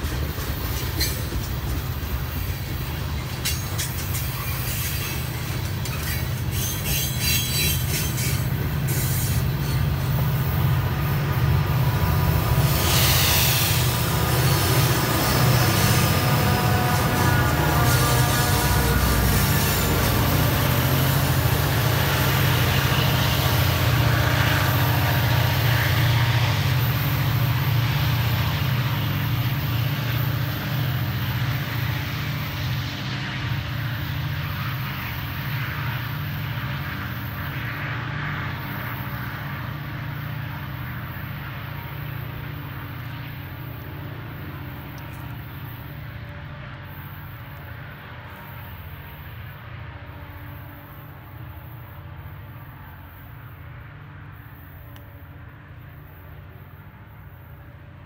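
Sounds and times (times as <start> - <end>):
diesel locomotive rumble: 0.0 - 58.0.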